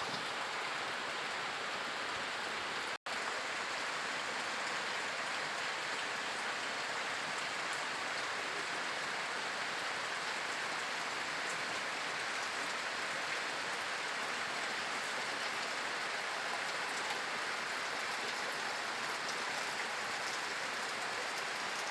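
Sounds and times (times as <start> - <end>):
patter of raindrops: 0.0 - 21.9.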